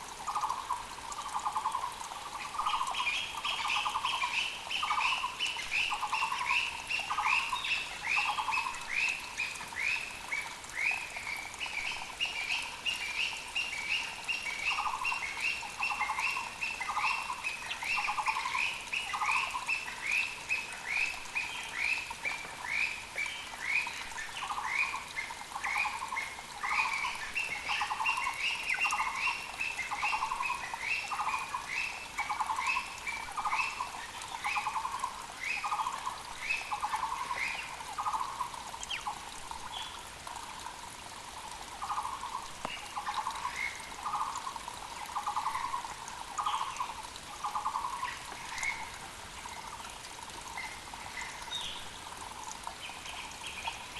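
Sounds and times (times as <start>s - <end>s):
mountain creek hissing: 0.0s - 53.9s.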